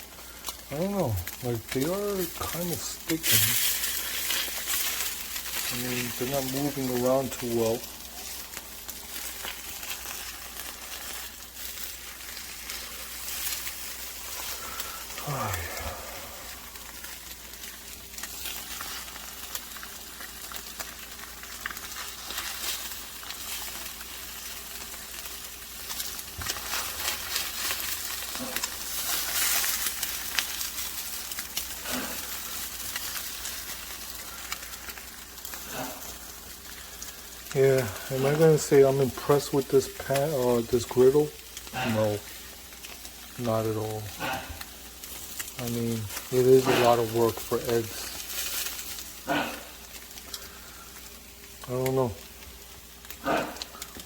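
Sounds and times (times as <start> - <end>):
eggs sizzling on griddle: 0.0 - 54.0
sharp crackles and pops: 0.0 - 54.0.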